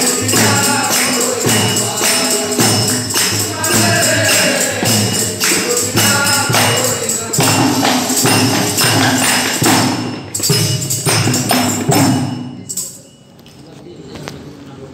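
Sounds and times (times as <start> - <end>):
jingling hand percussion: 0.0 - 13.4.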